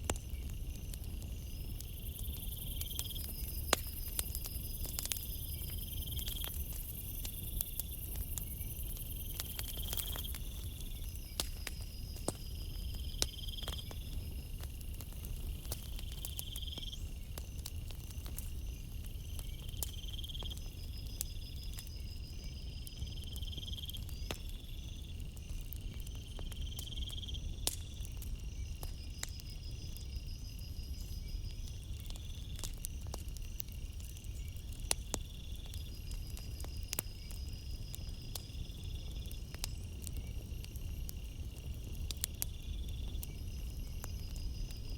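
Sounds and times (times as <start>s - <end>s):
campfire crackling and popping: 0.0s - 44.9s
insects chirping: 0.0s - 44.9s.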